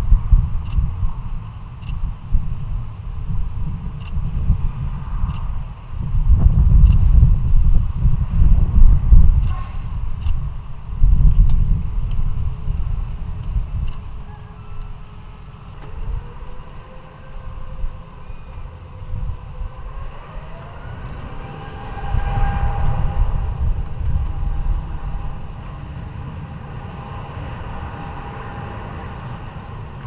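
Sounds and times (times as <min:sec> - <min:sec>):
jet engines rumbling and whining: 0:00.0 - 0:30.0.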